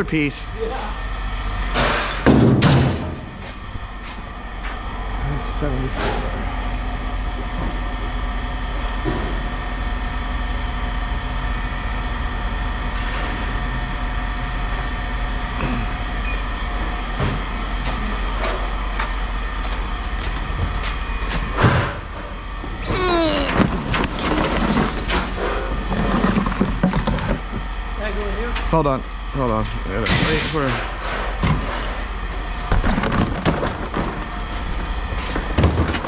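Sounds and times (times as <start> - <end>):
steady mechanical drone: 0.0 - 36.0.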